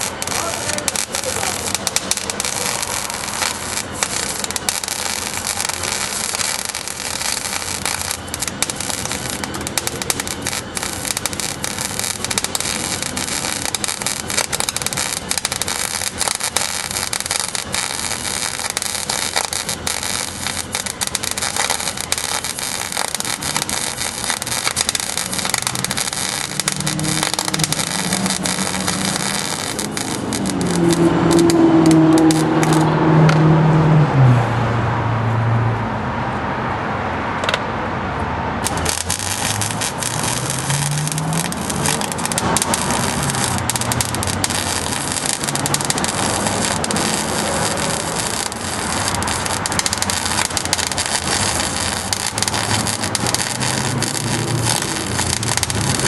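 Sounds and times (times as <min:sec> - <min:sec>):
welding arc crackling: 0:00.0 - 0:33.5, 0:38.5 - 0:56.0.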